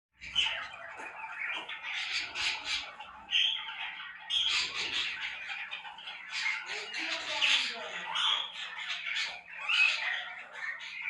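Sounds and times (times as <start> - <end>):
cockatiels chattering and squawking: 0.2 - 11.0.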